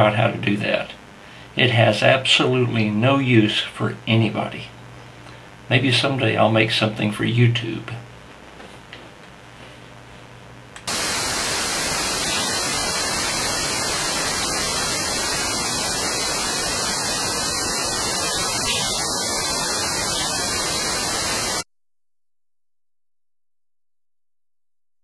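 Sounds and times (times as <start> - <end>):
loud static hiss: 0.0 - 21.7.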